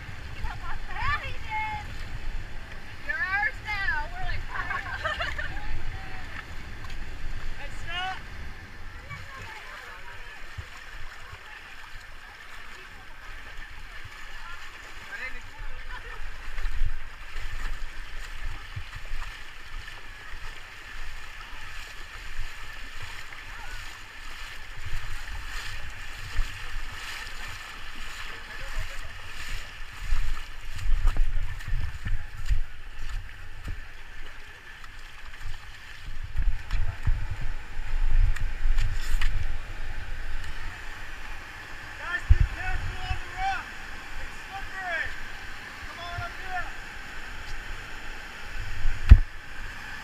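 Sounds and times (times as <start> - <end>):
rushing river water: 0.0 - 50.0.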